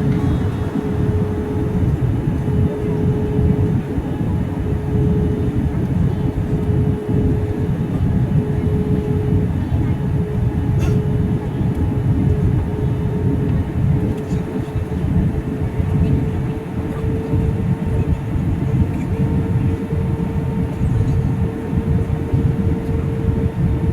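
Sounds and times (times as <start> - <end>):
steady engine drone: 0.0 - 23.9.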